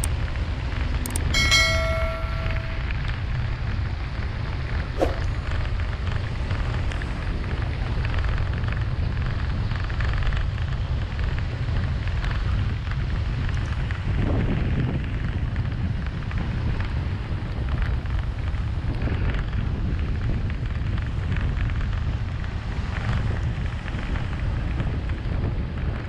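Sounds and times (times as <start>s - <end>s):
car driving low rumble: 0.0s - 26.0s.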